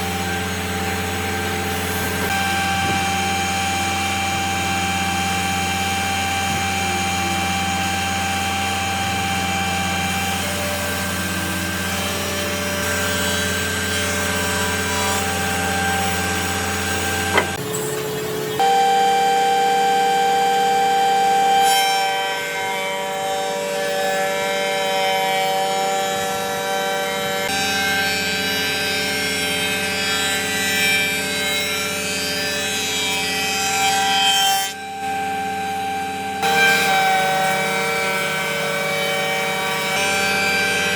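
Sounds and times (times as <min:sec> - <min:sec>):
power tool whining: 0:00.0 - 0:40.9.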